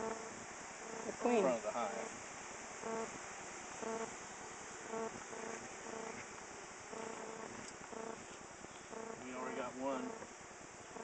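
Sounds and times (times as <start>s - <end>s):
bees buzzing faintly: 0.0s - 11.0s.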